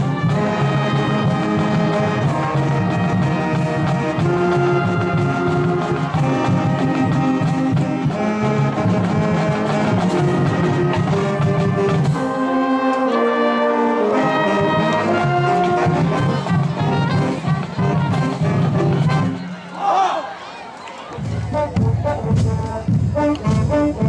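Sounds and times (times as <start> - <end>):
marching band brass chords: 0.0 - 20.4, 21.0 - 24.0.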